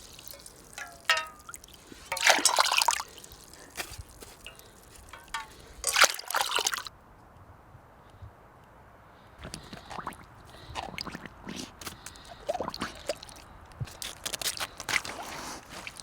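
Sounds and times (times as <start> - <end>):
water gurgling and dripping: 0.0 - 6.9, 9.4 - 16.0
water splashing: 0.0 - 6.9, 9.4 - 16.0.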